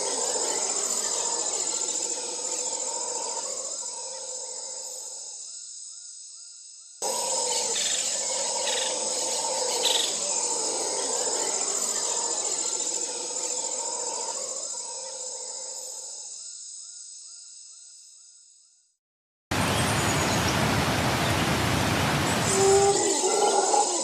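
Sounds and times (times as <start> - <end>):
insects chirping: 0.0 - 18.9, 19.5 - 24.0.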